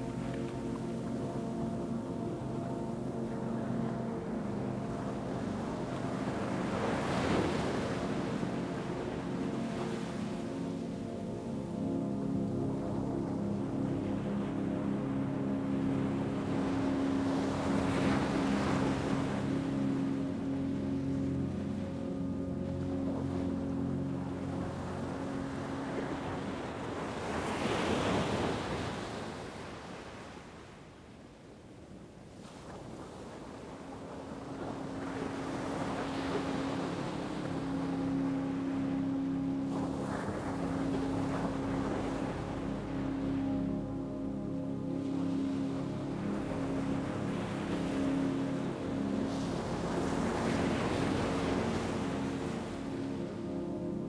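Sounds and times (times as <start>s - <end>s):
low steady hum: 0.0s - 27.4s, 33.9s - 54.0s
ambient music drone: 0.0s - 29.9s, 31.8s - 54.0s.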